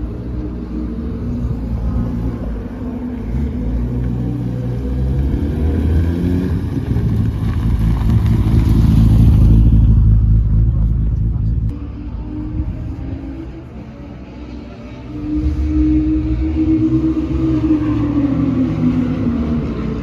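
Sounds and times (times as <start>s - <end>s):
car engine running: 0.0s - 18.1s.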